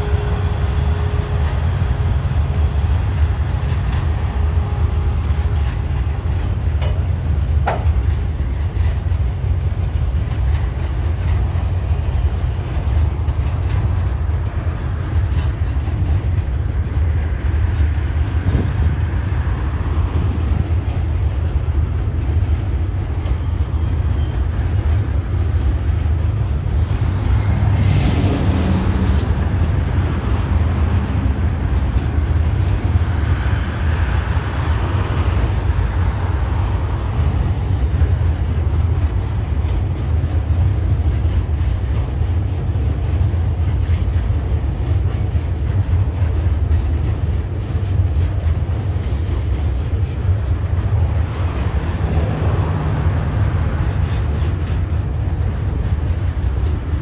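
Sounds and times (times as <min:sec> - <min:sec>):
freight train rumbling over bridge: 0:00.0 - 0:57.0
train wheel clatter: 0:00.0 - 0:57.0.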